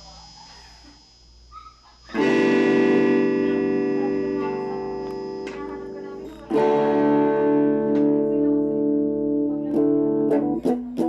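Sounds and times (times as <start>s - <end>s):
electric guitar chord ringing: 2.1s - 11.0s.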